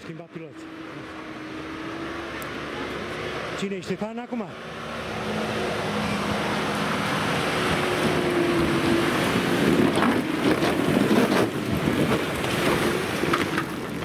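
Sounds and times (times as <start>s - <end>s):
off-road vehicle engine straining: 0.0s - 14.0s
tyres churning mud: 0.0s - 14.0s.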